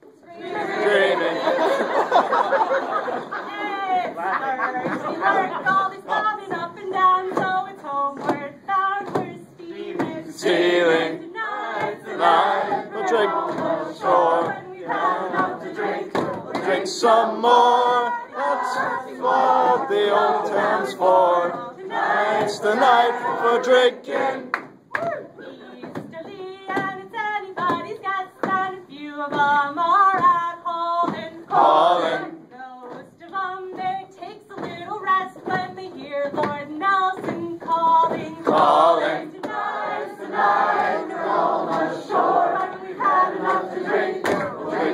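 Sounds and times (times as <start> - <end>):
group singing a sea chanty: 0.0 - 24.8, 25.4 - 44.9.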